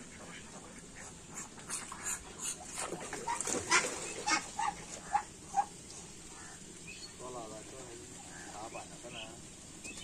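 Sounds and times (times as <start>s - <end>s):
duck splashing in pond water: 0.0s - 10.0s.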